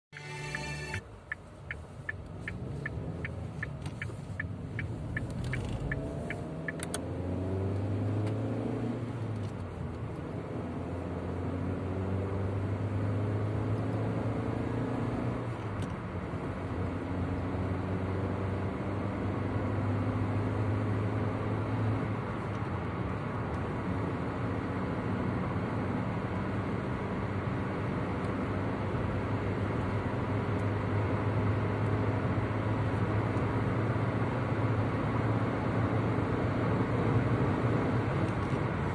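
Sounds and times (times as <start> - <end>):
car engine and tyre noise: 0.1 - 38.9.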